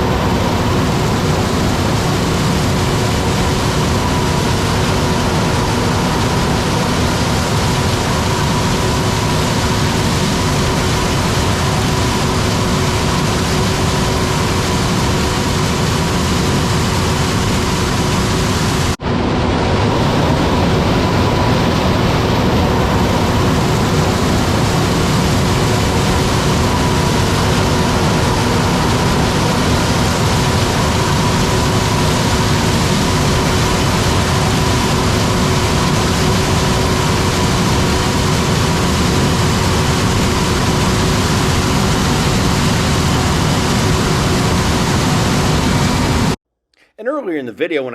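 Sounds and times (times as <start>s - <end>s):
constant hums: 0.0s - 46.4s
loud machine noise: 0.0s - 46.4s.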